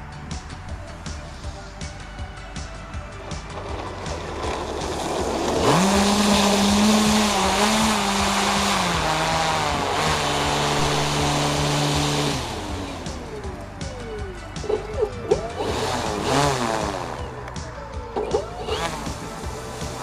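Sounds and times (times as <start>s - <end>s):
electric motor and propeller humming: 2.8s - 20.0s.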